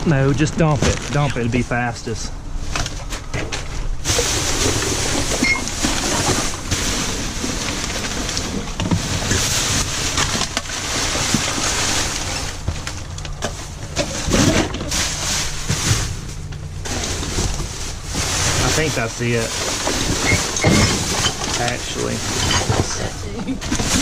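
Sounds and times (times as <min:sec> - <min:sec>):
packaged goods rustling and knocking: 0:00.0 - 0:01.6, 0:02.6 - 0:24.0.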